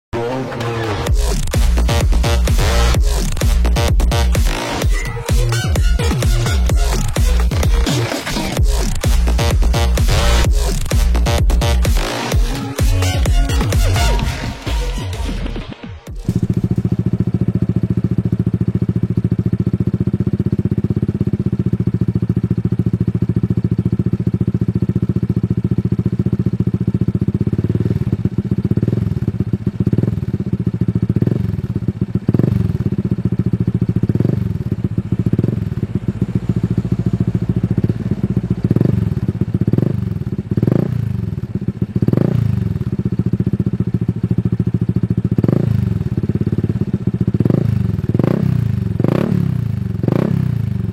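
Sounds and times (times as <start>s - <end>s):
engine idling: 0.2s - 50.9s.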